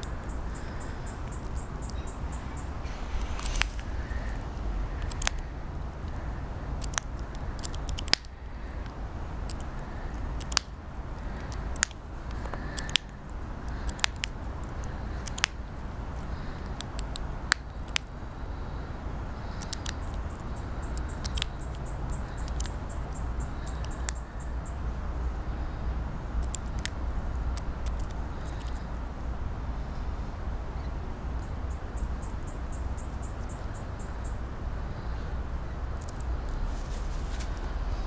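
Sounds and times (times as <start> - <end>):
low steady rumble: 0.0 - 38.0.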